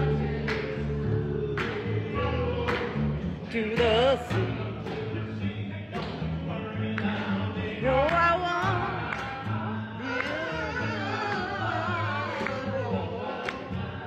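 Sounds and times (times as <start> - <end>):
double bass low notes: 0.0 - 14.0
man singing: 1.2 - 14.0.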